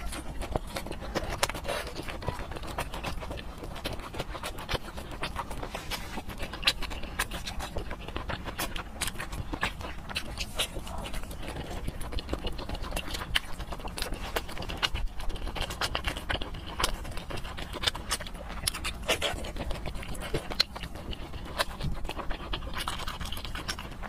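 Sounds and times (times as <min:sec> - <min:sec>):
wet chewing smacks: 0:00.0 - 0:24.0.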